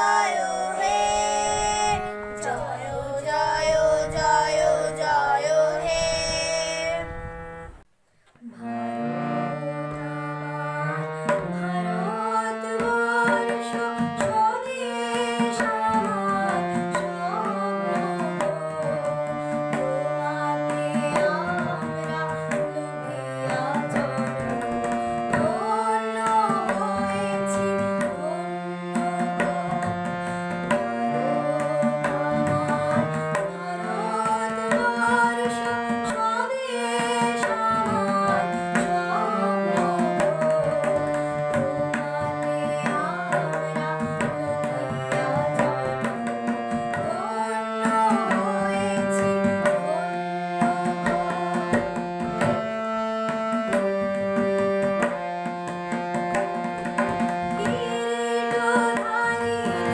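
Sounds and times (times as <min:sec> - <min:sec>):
person singing: 0:00.0 - 0:07.2, 0:08.4 - 0:55.9, 0:56.6 - 0:59.9
tabla playing: 0:00.0 - 0:07.3, 0:08.7 - 0:59.9
harmonium chords: 0:00.0 - 0:59.9.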